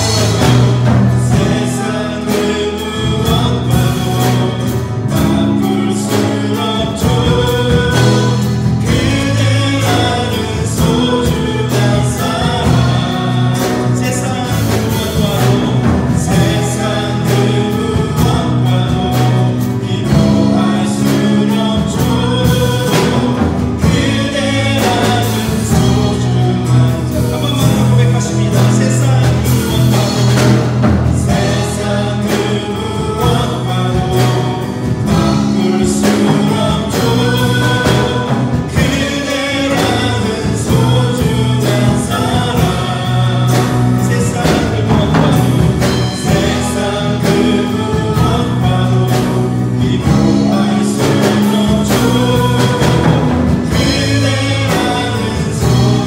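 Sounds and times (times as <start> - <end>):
acoustic guitar: 0.0 - 56.0
bass guitar: 0.0 - 56.0
drum kit: 0.0 - 56.0
people singing: 0.0 - 56.0
piano: 0.0 - 56.0.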